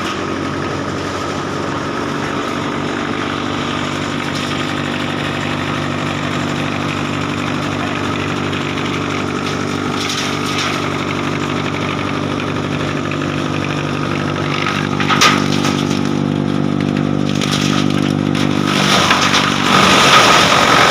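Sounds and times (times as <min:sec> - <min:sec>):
wood chipper running: 0:00.0 - 0:20.9.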